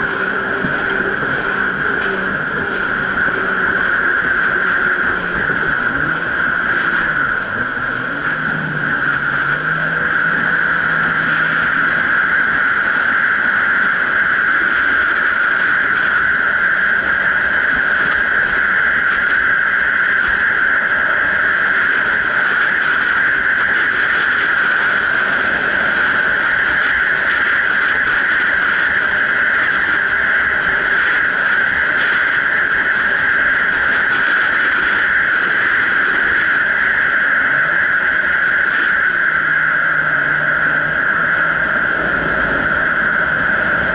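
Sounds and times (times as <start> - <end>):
jet ski engine drone: 0.0 - 43.9.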